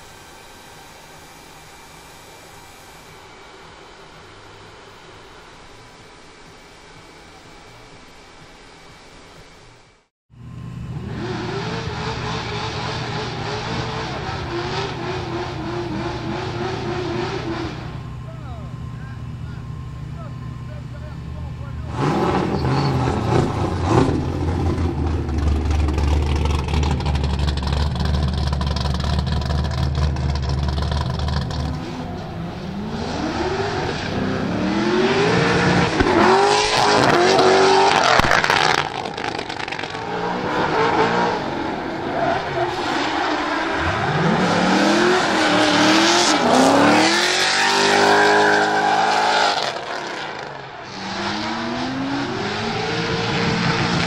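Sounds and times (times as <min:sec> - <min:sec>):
car engine revving: 0:10.4 - 0:54.0.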